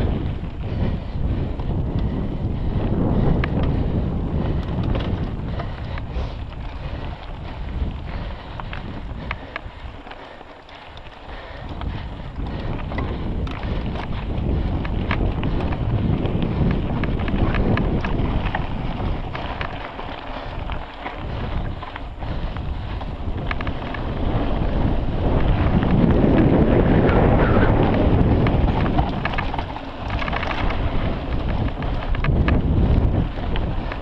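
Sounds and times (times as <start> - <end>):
bike clicks and knocks: 0.0 - 34.0
wind buffeting microphone: 0.0 - 34.0.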